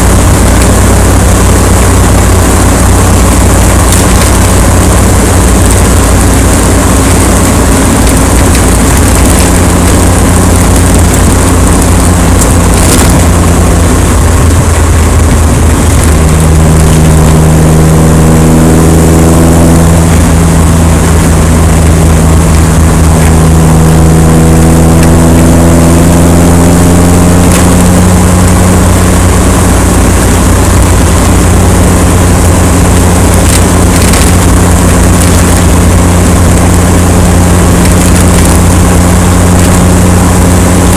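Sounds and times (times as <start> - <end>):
steady hum: 0.0 - 40.9
wind noise on microphone: 0.0 - 40.9.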